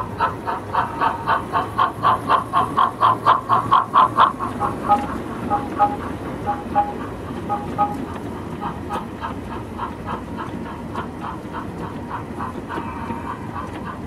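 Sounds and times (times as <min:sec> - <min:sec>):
model train wagons rumbling: 0:00.0 - 0:14.0
wheels clicking over rail joints: 0:00.0 - 0:14.0.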